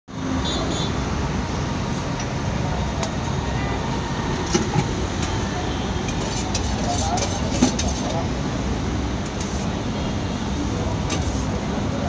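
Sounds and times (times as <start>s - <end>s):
low rumble of traffic: 0.1s - 12.0s.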